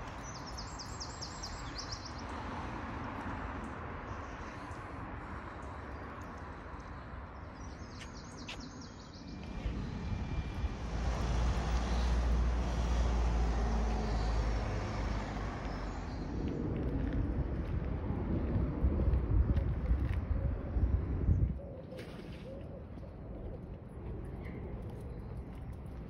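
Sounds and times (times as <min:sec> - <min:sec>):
rumble of passing vehicles: 0:00.0 - 0:21.6.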